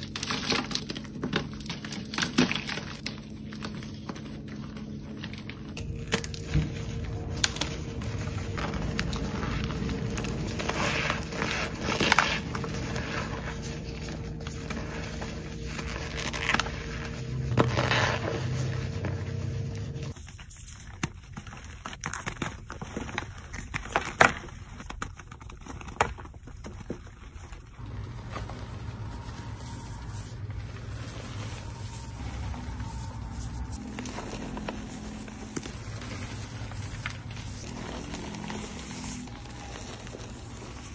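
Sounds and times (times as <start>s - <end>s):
chalk crunching and crumbling: 0.0s - 40.9s
hands crushing chalk: 0.0s - 40.9s.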